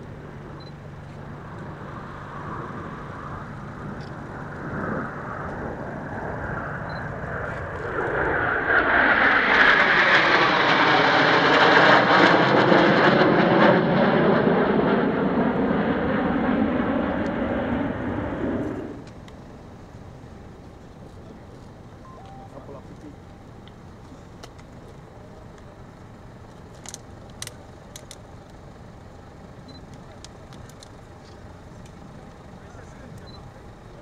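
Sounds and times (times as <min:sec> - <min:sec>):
jet aircraft flying past: 0:00.0 - 0:28.2.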